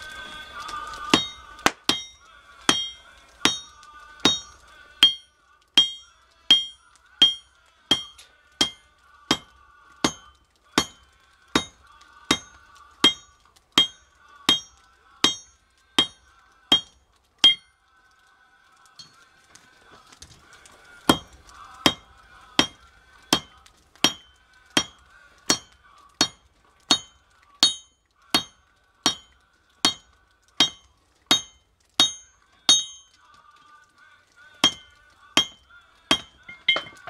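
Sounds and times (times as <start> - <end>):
hammer striking metal on anvil: 1.1 - 17.7, 21.9 - 33.0, 34.6 - 37.0.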